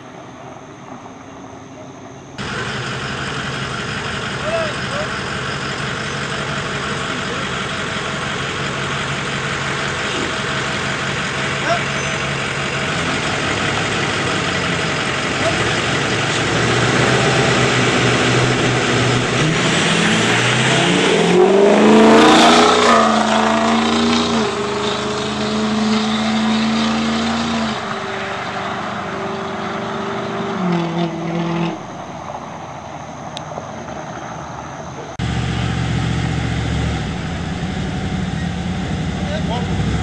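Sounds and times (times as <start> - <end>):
engines idling: 0.0 - 40.0
drag cars accelerating: 2.4 - 40.0.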